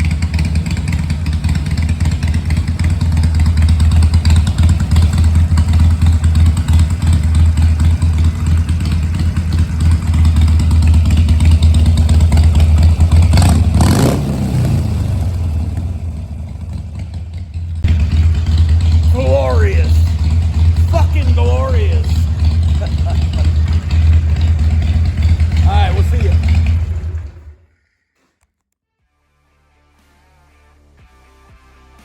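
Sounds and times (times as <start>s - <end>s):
motorcycle engine idling: 0.0s - 27.7s.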